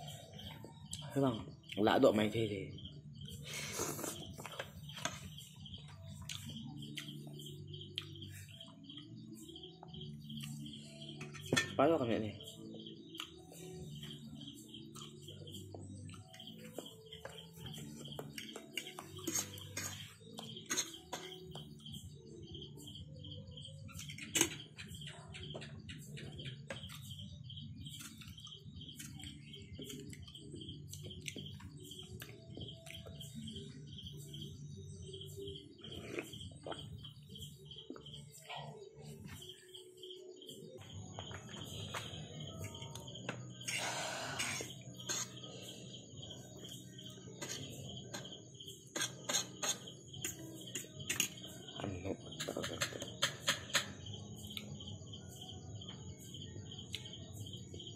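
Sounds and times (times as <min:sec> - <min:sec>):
high chirping: 0:00.0 - 0:57.9.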